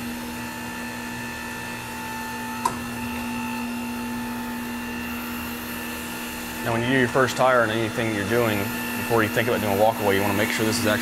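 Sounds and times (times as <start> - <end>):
tire changer motor humming: 0.0 - 11.0.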